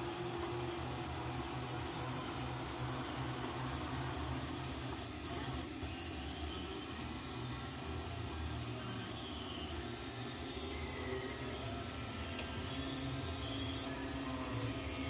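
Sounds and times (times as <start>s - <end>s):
hum of motors and fans: 0.0s - 15.0s
stepper motor tones: 0.0s - 15.0s.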